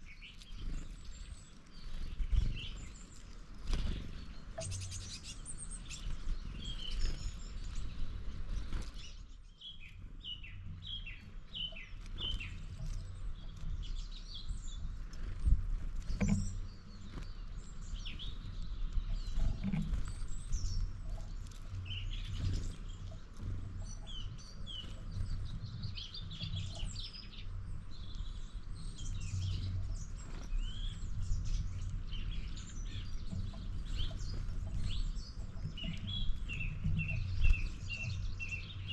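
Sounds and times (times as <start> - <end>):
small birds chirping: 0.0 - 38.9
steady low rumble: 0.0 - 38.9.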